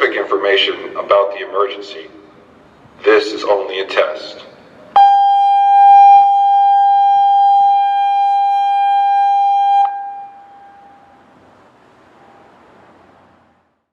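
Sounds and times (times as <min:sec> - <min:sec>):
faint background noise: 0:00.0 - 0:13.9.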